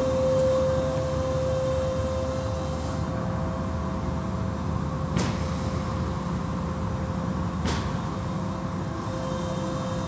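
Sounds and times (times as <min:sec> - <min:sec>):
car wash motors whining: 0:00.0 - 0:07.5, 0:08.1 - 0:10.0.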